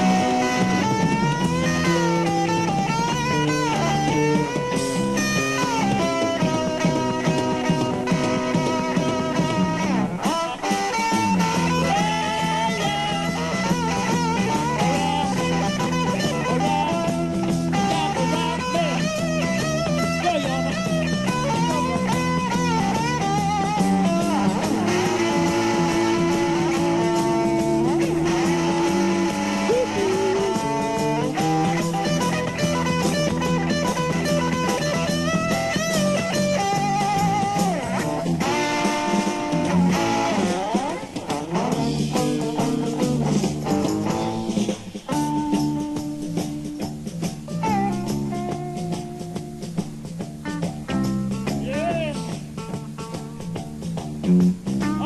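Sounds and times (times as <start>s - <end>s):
blues-rock band playing: 0.0s - 55.0s
electric guitar lead: 0.0s - 55.0s.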